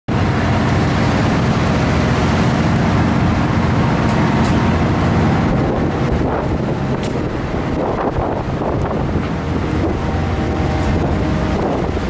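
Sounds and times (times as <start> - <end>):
ferry engine drone: 0.1 - 12.0
wind and water rushing: 0.1 - 12.0.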